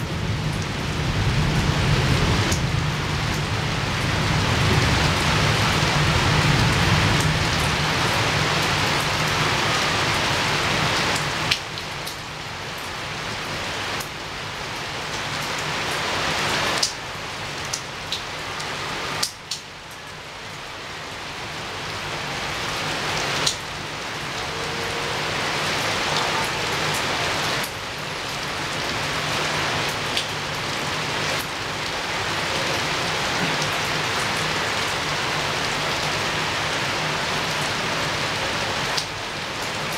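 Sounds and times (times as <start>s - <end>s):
heavy rain against a window: 0.0s - 39.9s.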